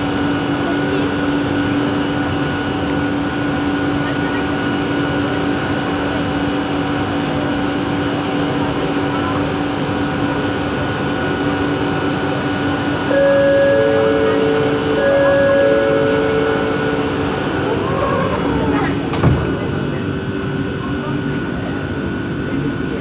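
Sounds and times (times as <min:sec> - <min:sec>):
train car humming: 0:00.0 - 0:23.0.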